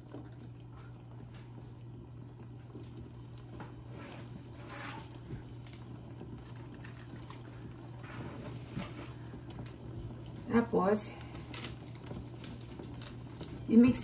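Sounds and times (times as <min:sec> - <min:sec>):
broth bubbling in pot: 0:00.0 - 0:14.0.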